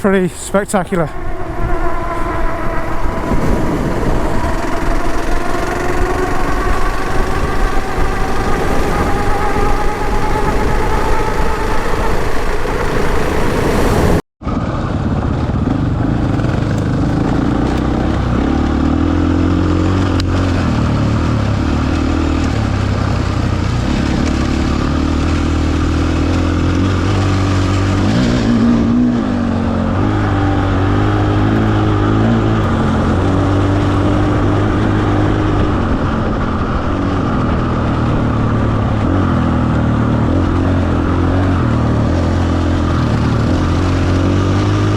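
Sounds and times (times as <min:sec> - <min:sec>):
motorcycle engine revving: 0:00.0 - 0:44.9
wind and road noise: 0:00.0 - 0:44.9.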